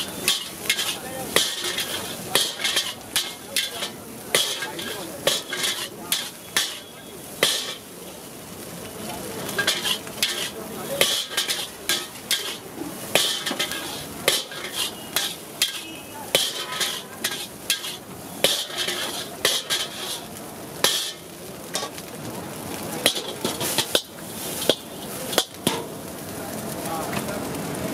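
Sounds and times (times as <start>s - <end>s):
spatula scraping iron wok: 0.0s - 7.9s, 9.4s - 22.0s, 23.0s - 26.0s
frying sizzle: 0.0s - 27.9s.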